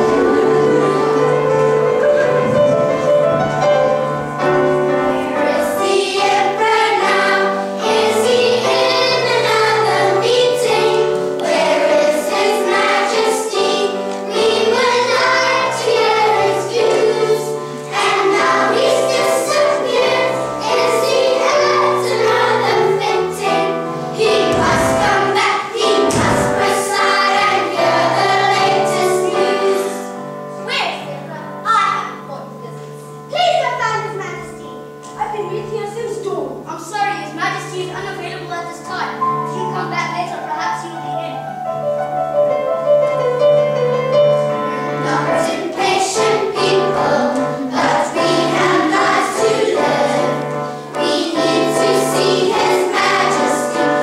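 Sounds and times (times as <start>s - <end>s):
children's choir singing: 0.0s - 33.0s, 42.4s - 54.0s
instrumental accompaniment: 0.0s - 54.0s.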